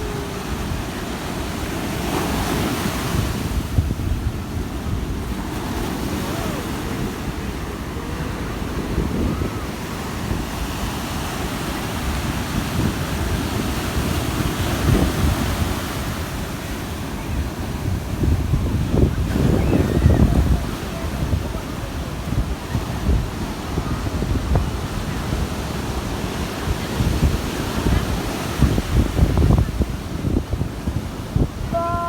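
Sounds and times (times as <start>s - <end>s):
sea surf breaking: 0.0s - 32.0s
wind buffeting microphone: 0.0s - 32.0s.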